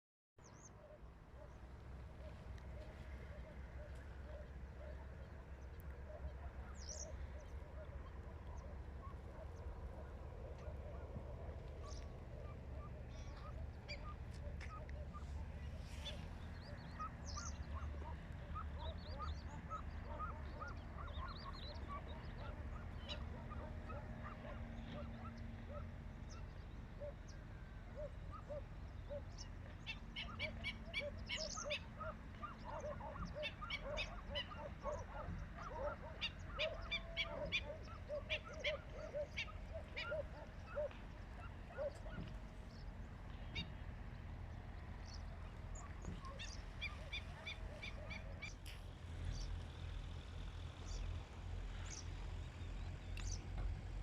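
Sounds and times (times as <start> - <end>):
birds calling: 0.4 - 54.0.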